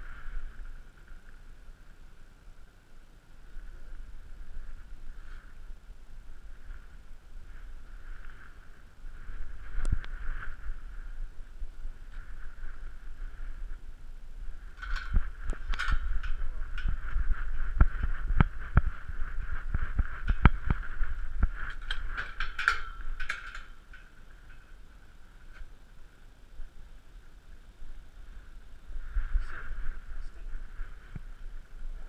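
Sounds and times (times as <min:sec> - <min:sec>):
steady high hum: 0:00.0 - 0:32.0.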